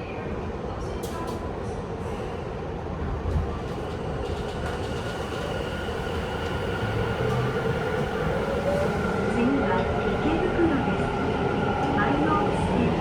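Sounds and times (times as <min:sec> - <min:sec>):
rail and wheel rumble: 0:00.0 - 0:13.0.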